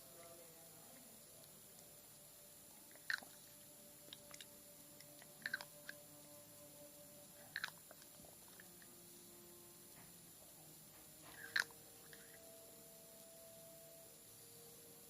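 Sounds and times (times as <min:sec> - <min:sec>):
light steady hiss: 0:00.0 - 0:15.0.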